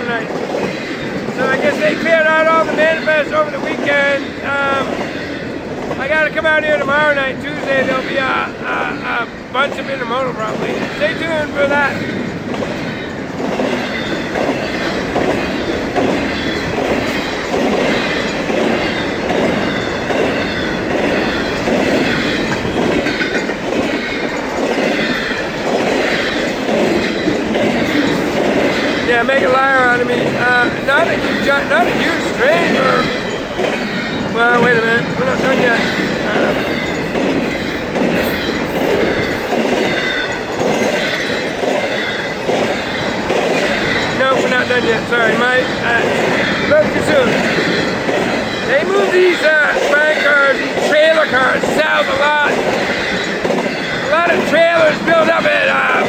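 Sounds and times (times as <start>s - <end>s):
freight train rumble: 0.0s - 56.0s
train wheels clacking on rail joints: 0.0s - 56.0s.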